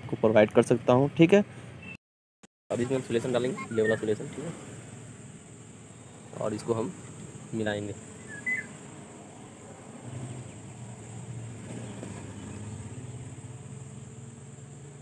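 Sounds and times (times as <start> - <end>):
low engine hum: 2.8 - 15.0.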